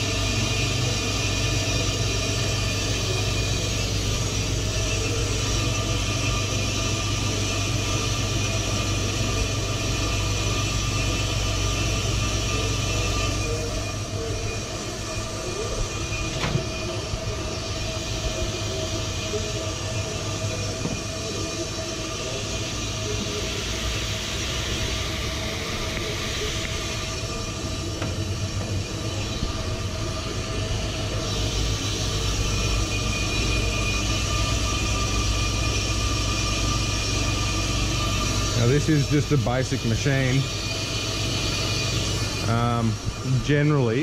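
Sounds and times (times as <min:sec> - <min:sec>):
brake lathe motor hum: 0:00.0 - 0:44.0
hiss of cutting tool: 0:00.0 - 0:44.0.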